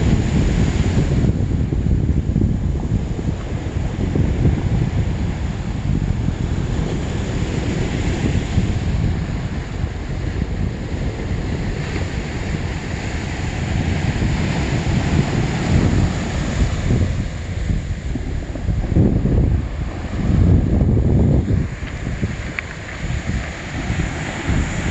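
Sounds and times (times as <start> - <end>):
wind buffeting microphone: 0.0 - 24.9
waves on a pebble beach: 3.2 - 24.9.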